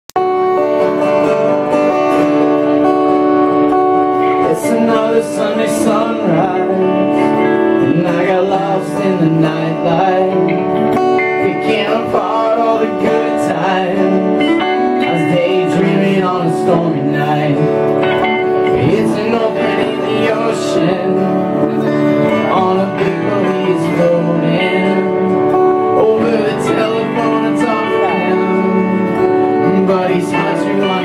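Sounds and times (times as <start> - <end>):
live band playing: 0.2 - 31.0.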